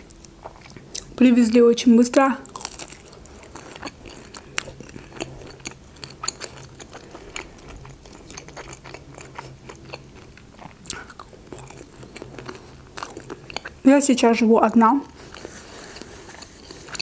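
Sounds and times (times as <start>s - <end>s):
crunchy chewing: 0.0s - 1.2s, 2.4s - 13.8s, 15.0s - 17.0s
low steady hum: 0.0s - 17.0s.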